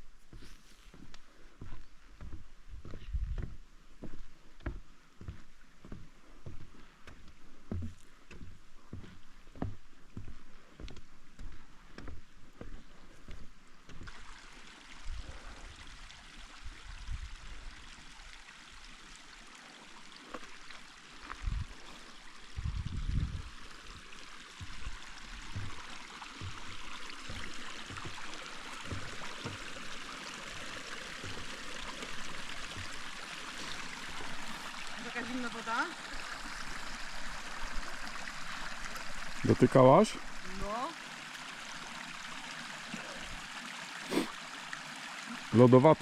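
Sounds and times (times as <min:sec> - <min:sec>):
mountain stream running: 0:00.0 - 0:46.0.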